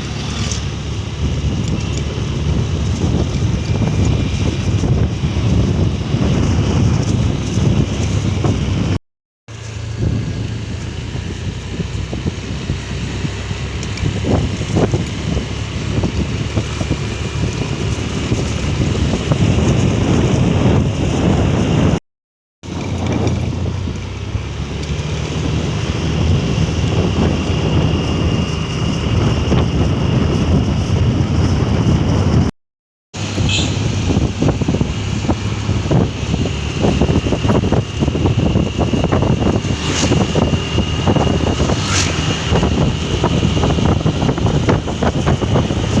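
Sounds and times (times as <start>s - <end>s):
wind noise on microphone: 0.0s - 9.0s, 9.6s - 22.0s, 22.6s - 32.5s, 33.2s - 46.0s
vehicle engine running: 0.0s - 22.0s, 22.6s - 32.5s, 33.2s - 46.0s.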